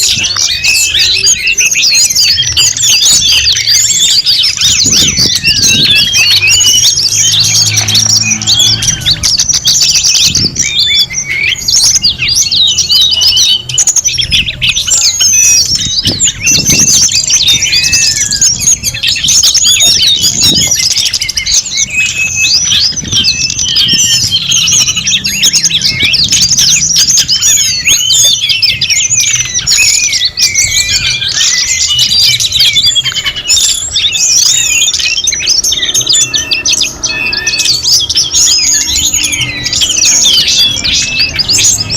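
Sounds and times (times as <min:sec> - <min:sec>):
birds chirping and squawking: 0:00.0 - 0:41.9.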